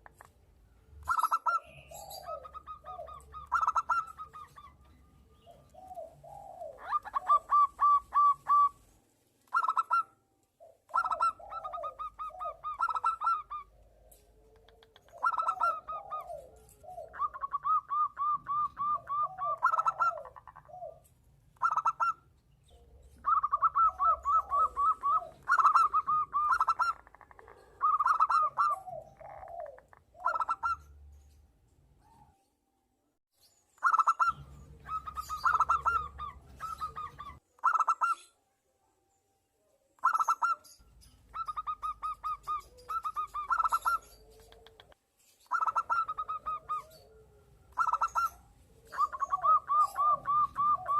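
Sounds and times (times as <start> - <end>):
doves cooing: 1.0 - 8.9, 9.5 - 31.0, 33.8 - 38.2, 41.3 - 50.9.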